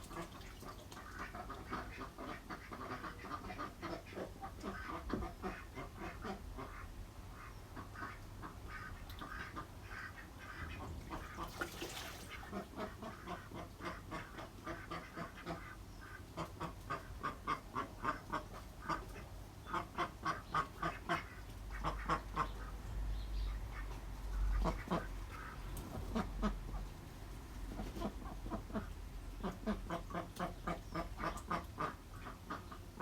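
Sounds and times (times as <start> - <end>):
ducks quacking: 0.0 - 22.8, 23.4 - 26.9, 27.7 - 33.0.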